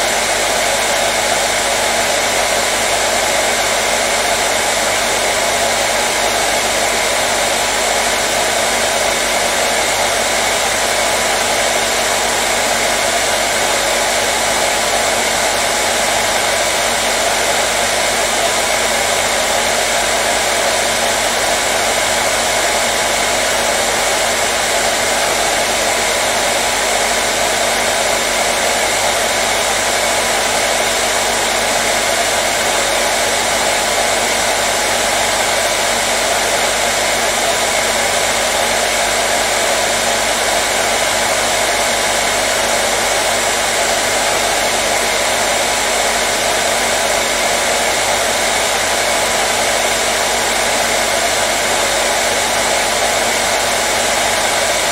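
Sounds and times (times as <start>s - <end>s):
hairdryer blowing: 0.0s - 54.9s.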